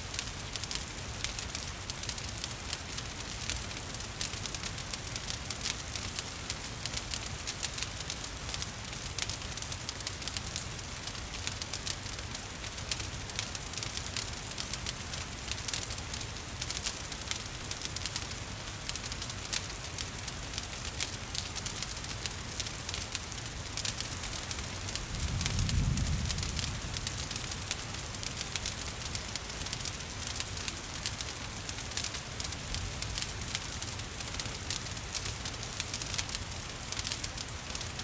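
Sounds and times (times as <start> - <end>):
gentle rain hiss: 0.0 - 38.0
wood fire crackling and popping: 0.1 - 38.0.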